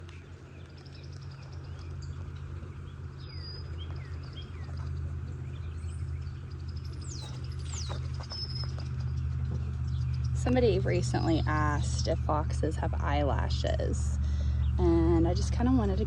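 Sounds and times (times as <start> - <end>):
birds chirping and calling: 0.0 - 13.6
steady low hum: 0.0 - 16.0.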